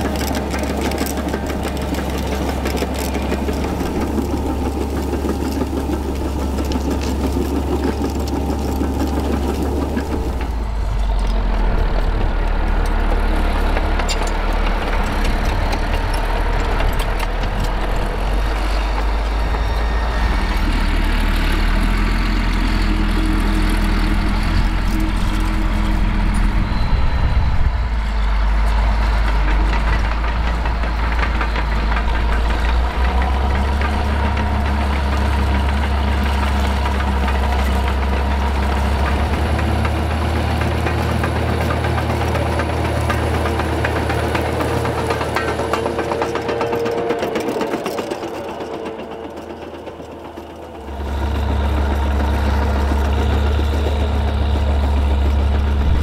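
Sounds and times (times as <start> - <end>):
diesel tractor engine running: 0.0 - 56.0
steel tracks clattering: 0.0 - 56.0.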